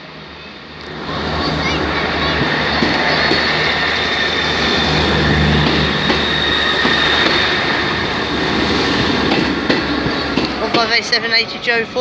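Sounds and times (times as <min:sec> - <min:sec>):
diesel train drone: 0:00.0 - 0:12.0.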